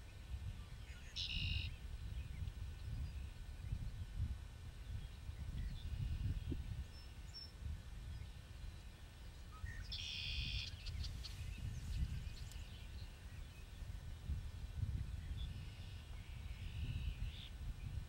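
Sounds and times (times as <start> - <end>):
distant songbird trill: 0.0 - 4.0, 4.8 - 14.0, 15.1 - 18.0
wind rumble on microphone: 0.0 - 18.0.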